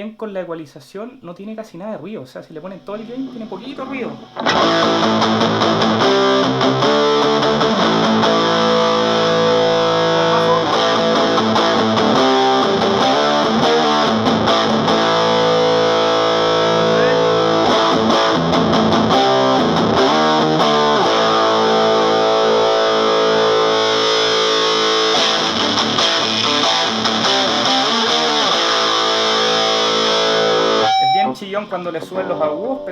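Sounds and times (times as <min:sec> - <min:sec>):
distorted electric guitar chords: 0:02.6 - 0:32.9.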